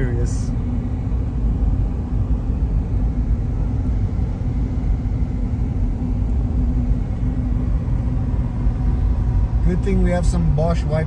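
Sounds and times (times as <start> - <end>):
engine and road noise in cabin: 0.0 - 11.0.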